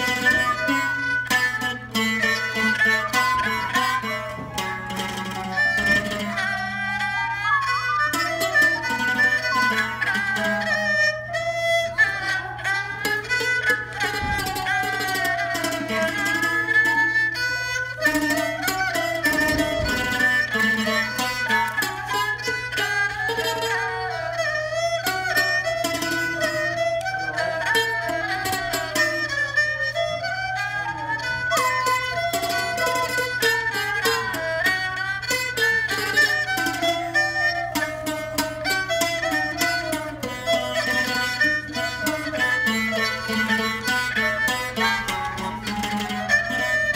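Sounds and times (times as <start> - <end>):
bowed fiddle sliding notes: 0.0 - 46.9
plucked zither melody: 0.0 - 46.9.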